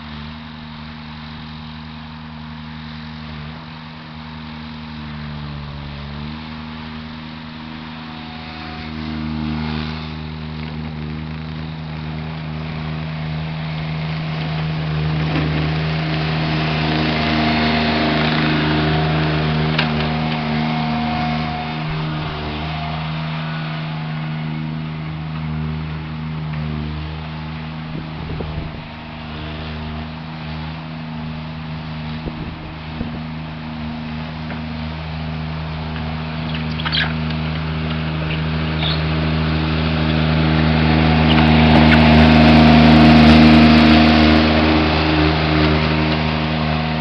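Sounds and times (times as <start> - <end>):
skid steer engine running: 0.0 - 47.0.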